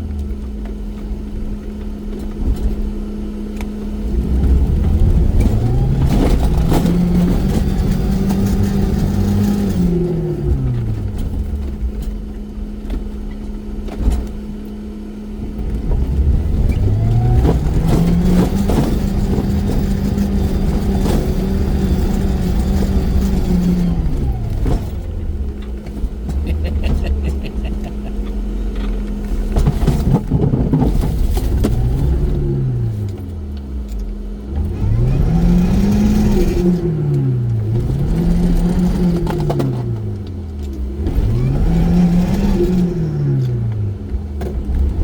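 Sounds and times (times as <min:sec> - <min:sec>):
off-road vehicle engine revving: 0:00.0 - 0:45.0.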